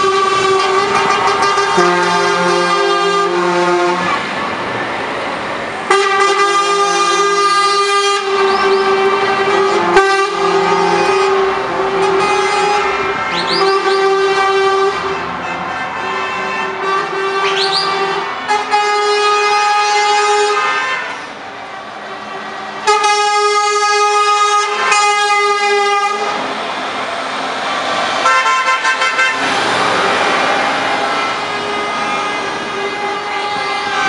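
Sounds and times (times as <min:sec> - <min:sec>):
truck air horn blasts: 0:00.0 - 0:04.2, 0:05.8 - 0:21.4, 0:22.2 - 0:26.5, 0:28.2 - 0:29.6, 0:30.6 - 0:34.0
truck diesel engine passing: 0:00.0 - 0:34.0.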